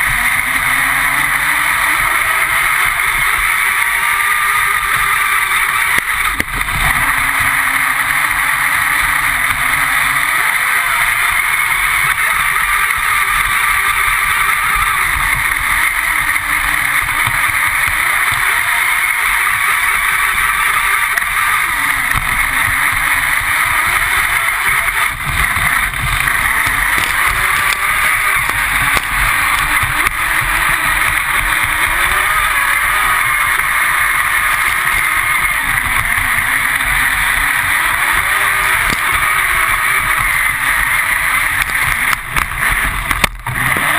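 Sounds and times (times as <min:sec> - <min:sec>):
high motor whine: 0:00.0 - 0:43.9.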